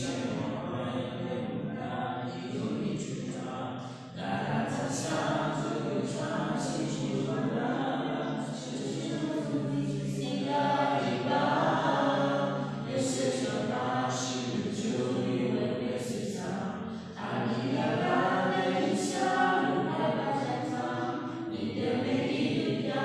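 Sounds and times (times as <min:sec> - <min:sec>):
group singing without instruments: 0:00.0 - 0:23.0.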